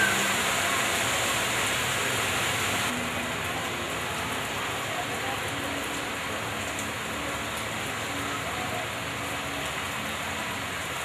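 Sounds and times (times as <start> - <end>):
rain falling on street: 0.0 - 11.0.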